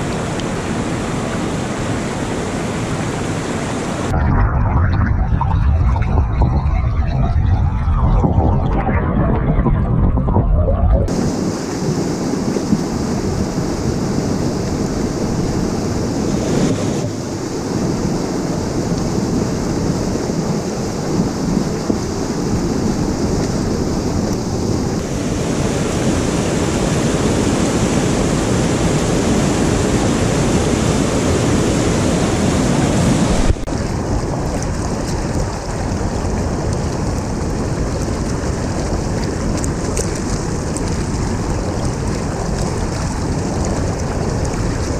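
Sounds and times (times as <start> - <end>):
stream rushing over rocks: 0.0 - 4.4, 11.1 - 44.9.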